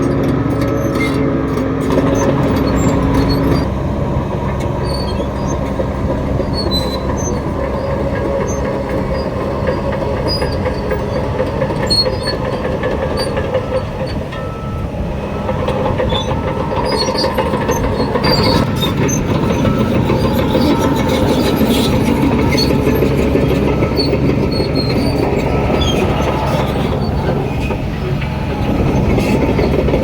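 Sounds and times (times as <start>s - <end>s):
diesel engine running: 0.0s - 30.0s
steel tracks clattering: 0.0s - 30.0s.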